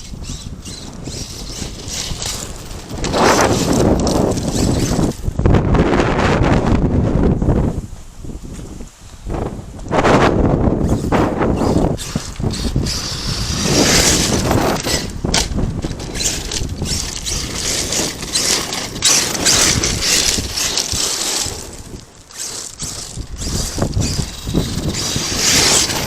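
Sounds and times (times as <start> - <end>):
tyres crunching dirt: 0.0 - 6.6, 8.4 - 26.0
electric drivetrain whining: 0.0 - 6.8, 9.7 - 26.0.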